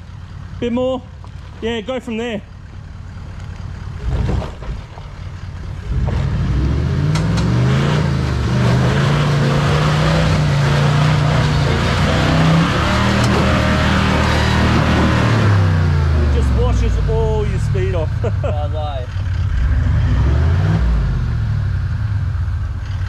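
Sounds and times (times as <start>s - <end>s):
vehicle engine revving under load: 2.6s - 23.0s.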